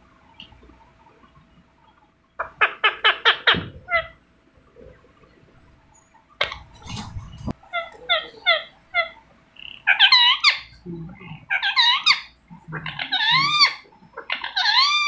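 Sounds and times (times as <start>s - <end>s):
parrot calling: 2.4s - 15.0s.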